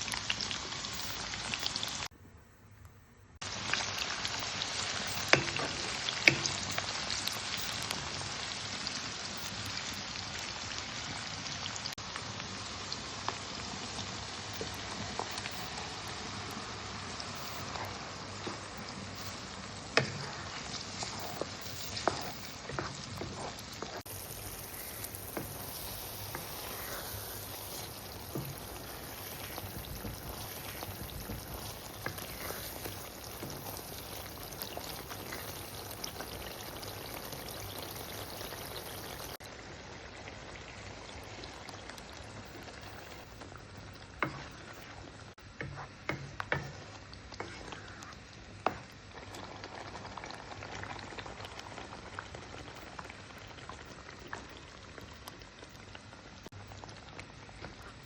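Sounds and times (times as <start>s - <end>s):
food sizzling in a frying pan: 0.0s - 2.1s, 3.4s - 58.0s.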